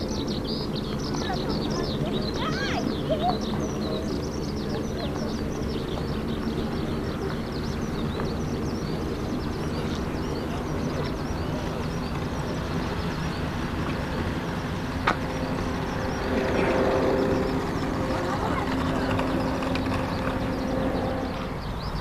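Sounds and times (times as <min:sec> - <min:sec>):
distant jet engines droning: 0:00.0 - 0:22.0.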